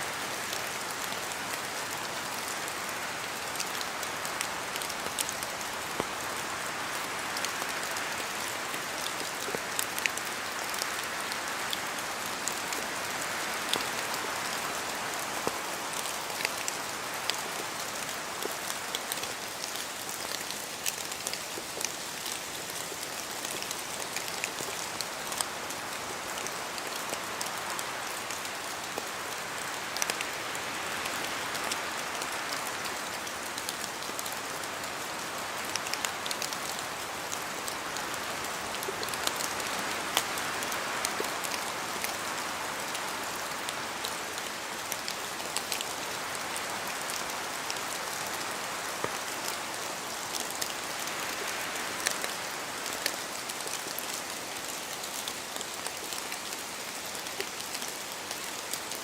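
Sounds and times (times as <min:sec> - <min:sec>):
steady rain in forest: 0:00.0 - 0:59.0
raindrops dripping from trees: 0:00.1 - 0:59.0.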